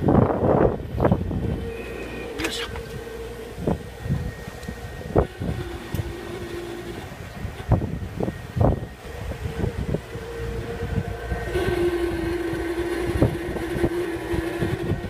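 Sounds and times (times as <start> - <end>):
condensing unit humming: 0.0 - 15.0.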